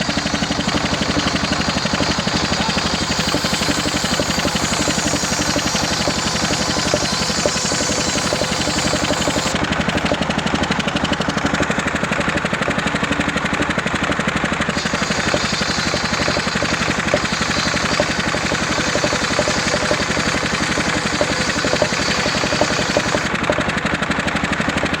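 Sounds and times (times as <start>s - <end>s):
saw engine running: 0.0s - 25.0s.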